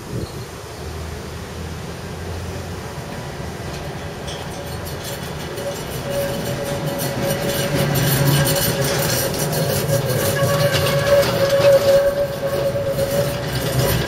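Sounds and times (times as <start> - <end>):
tram passing: 0.0 - 14.0.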